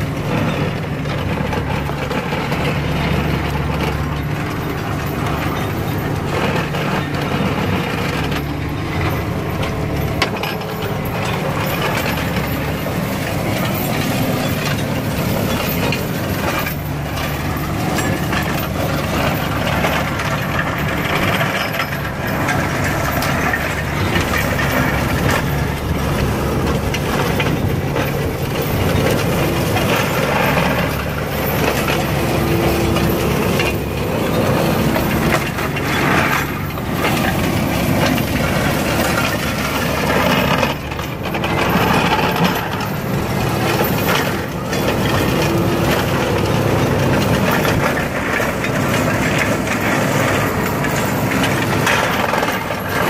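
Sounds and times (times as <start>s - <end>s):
flail mower chopping shrubs: 0.0s - 53.0s
tractor engine running: 0.0s - 53.0s.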